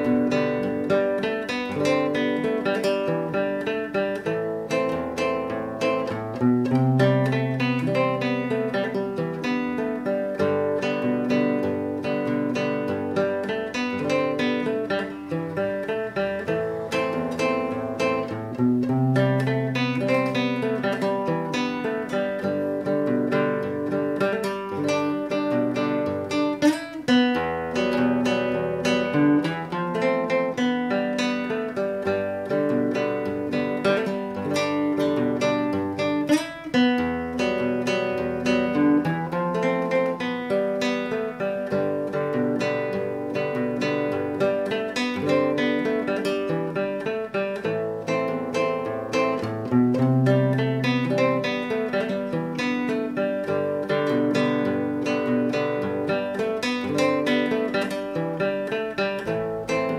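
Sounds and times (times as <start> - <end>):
classical guitar fingerstyle: 0.0 - 59.9.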